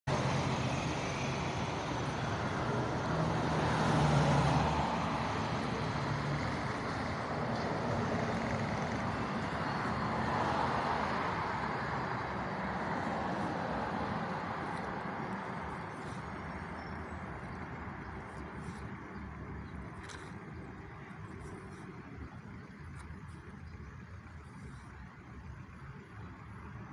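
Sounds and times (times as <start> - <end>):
vehicles passing: 0.0 - 26.9.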